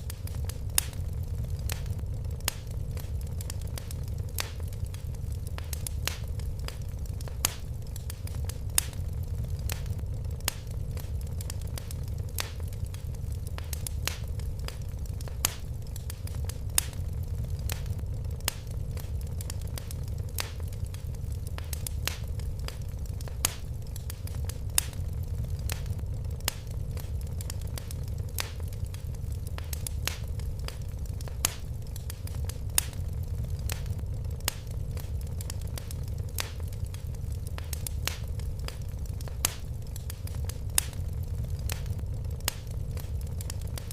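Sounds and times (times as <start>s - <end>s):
fireplace fire crackling: 0.0s - 43.9s.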